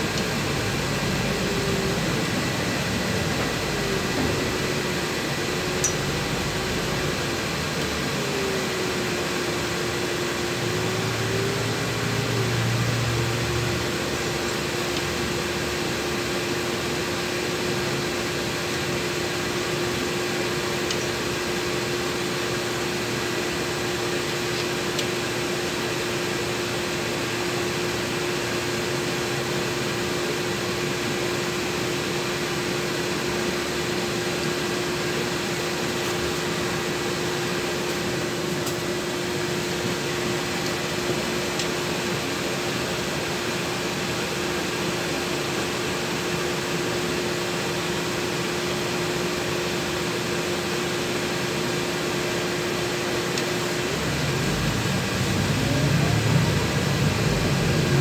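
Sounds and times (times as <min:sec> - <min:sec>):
bus cabin machine drone: 0:00.0 - 0:58.0.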